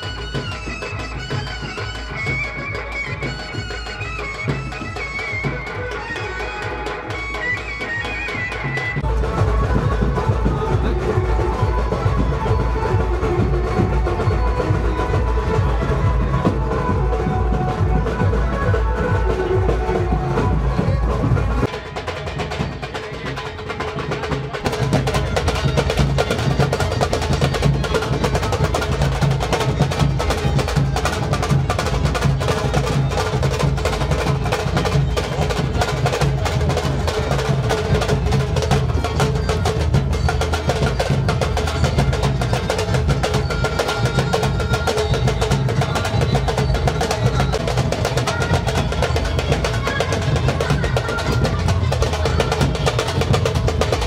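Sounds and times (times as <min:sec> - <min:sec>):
fast continuous drumming: 0:00.0 - 0:54.0.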